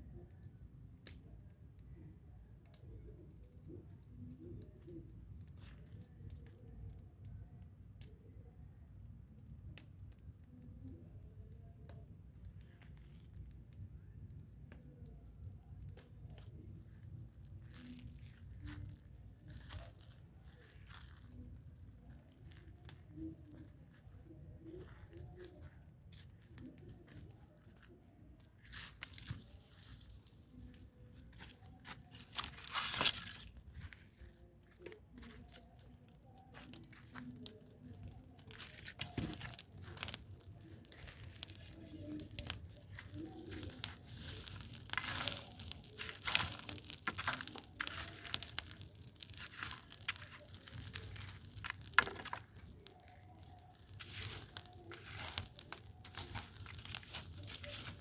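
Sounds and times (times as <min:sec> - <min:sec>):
dry material crackling and crunching: 0:00.0 - 0:58.0.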